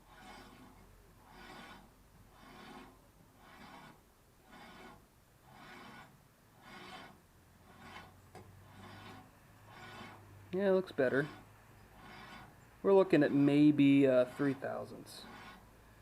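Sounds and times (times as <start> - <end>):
soft rasping rub: 0.0 - 16.0.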